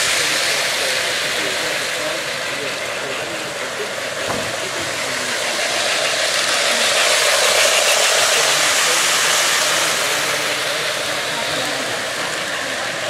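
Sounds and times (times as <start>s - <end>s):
model train rolling clatter: 0.0s - 13.0s.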